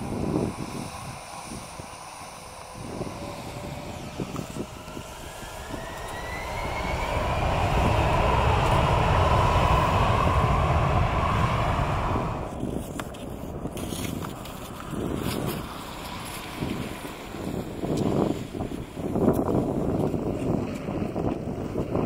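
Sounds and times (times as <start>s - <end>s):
faint rising whine: 0.0s - 19.2s
jet engines rumbling: 0.0s - 22.0s.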